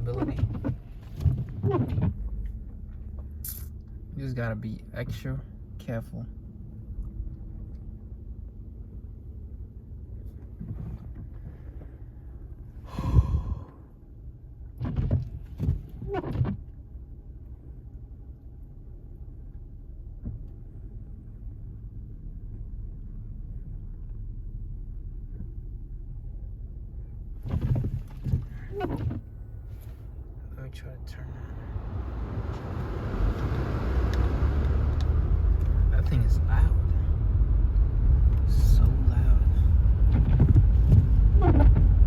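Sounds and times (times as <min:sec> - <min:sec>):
vehicle rumble inside cabin: 0:00.0 - 0:42.0.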